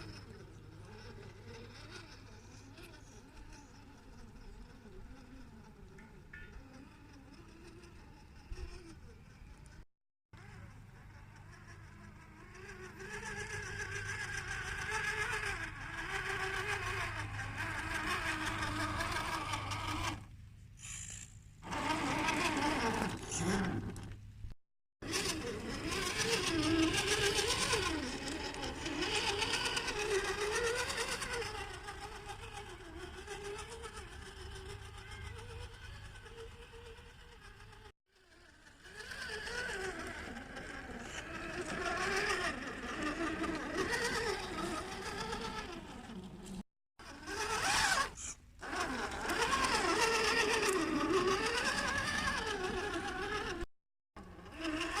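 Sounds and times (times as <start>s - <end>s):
toy car electric motor whining: 0.0s - 24.2s, 25.0s - 55.0s.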